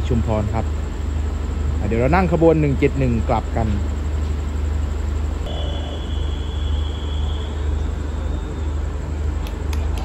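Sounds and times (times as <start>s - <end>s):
diesel train engine rumbling: 0.0s - 10.0s.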